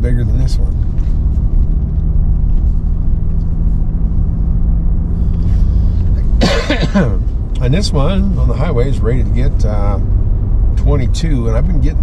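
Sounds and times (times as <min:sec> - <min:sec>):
pickup cabin road rumble: 0:00.0 - 0:12.0.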